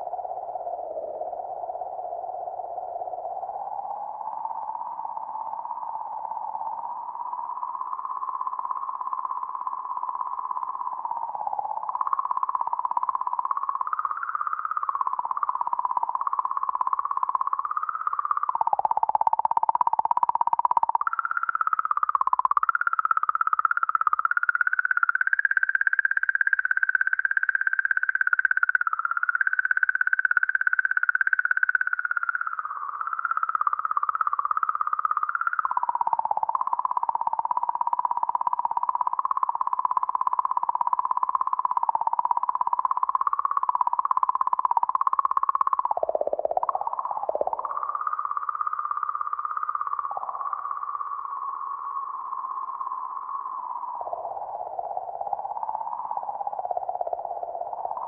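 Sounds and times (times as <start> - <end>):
warbling whistle-like tone: 0.0 - 58.0.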